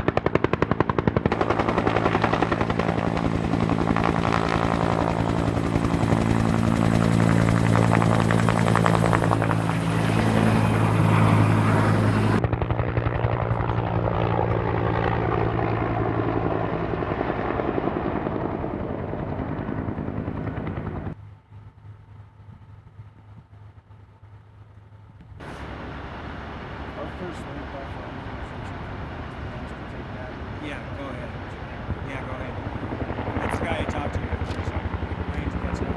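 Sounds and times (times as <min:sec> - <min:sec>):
helicopter rotor beating: 0:00.0 - 0:24.4, 0:25.4 - 0:35.9
helicopter engine drone: 0:00.0 - 0:35.9.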